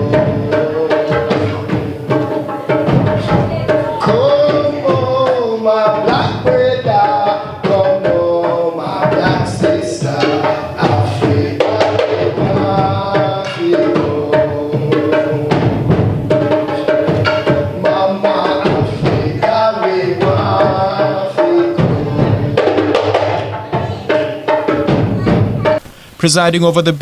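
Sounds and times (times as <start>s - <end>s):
hand drum rhythm: 0.0s - 25.9s.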